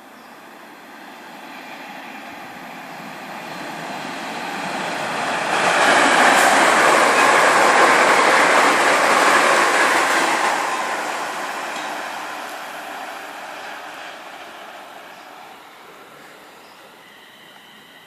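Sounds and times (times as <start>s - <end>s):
train wheels on rails: 1.1s - 18.0s.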